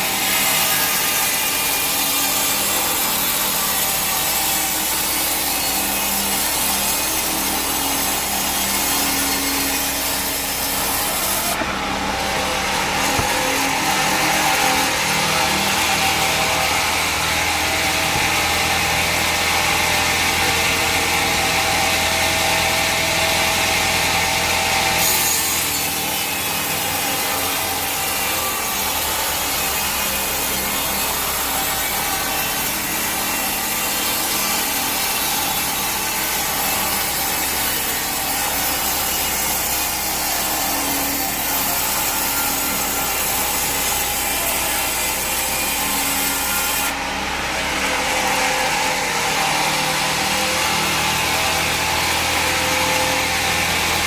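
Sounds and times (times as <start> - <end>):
power saw cutting log: 0.0 - 54.0.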